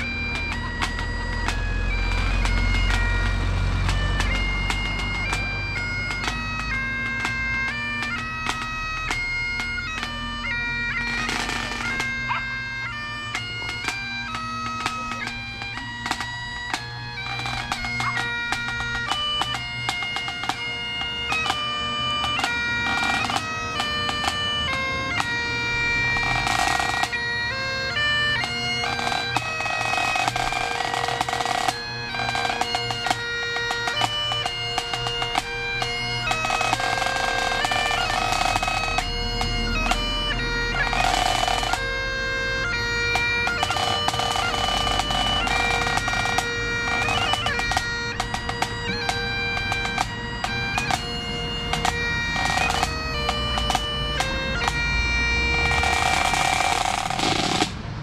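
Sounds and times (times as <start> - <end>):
drum beating: 0.0 - 57.8
bagpipe playing a tune: 0.0 - 58.0.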